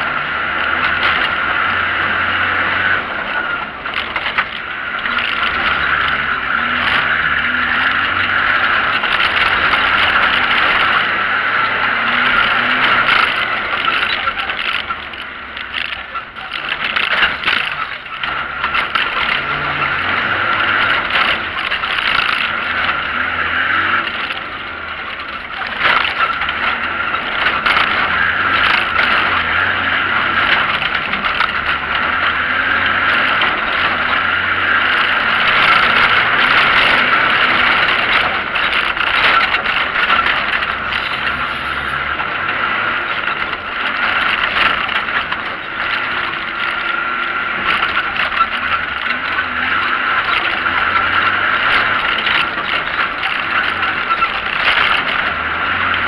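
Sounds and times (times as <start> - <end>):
car engine running hard: 0.0 - 56.0
knocks and rattles from bumps: 0.0 - 56.0.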